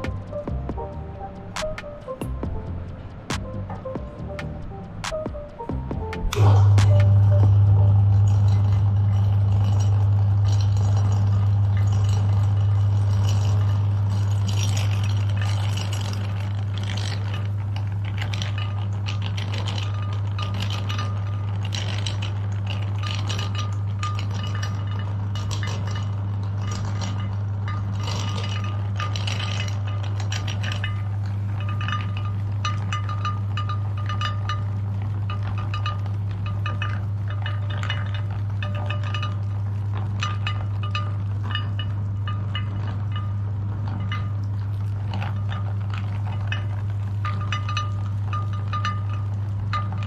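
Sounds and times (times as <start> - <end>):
grinder clinking and rattling: 0.0 - 5.2, 6.0 - 50.0.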